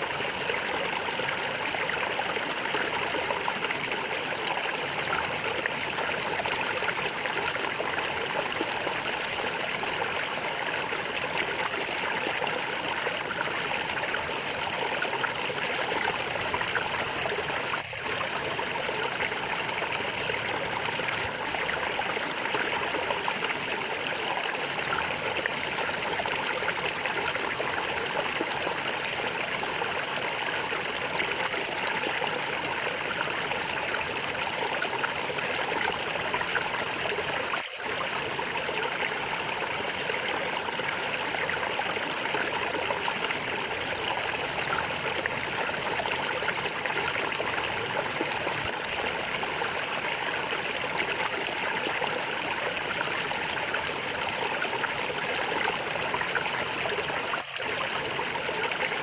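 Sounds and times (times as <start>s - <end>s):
stream water gurgling: 0.0s - 59.0s.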